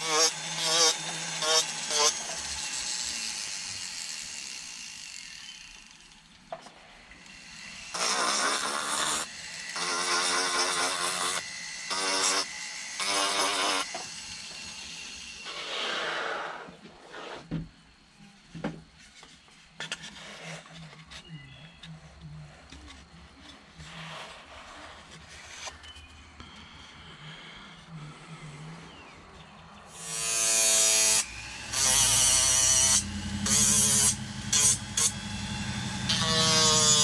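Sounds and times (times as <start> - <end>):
rotary tool grinding wood: 0.0 - 17.6, 18.9 - 29.1, 29.8 - 37.0.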